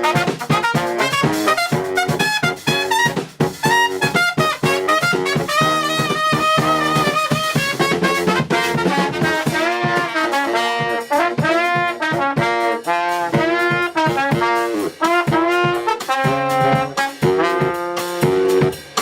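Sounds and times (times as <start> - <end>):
brass band playing lively tune: 0.0 - 19.0
trumpet and trombone short notes: 0.0 - 19.0.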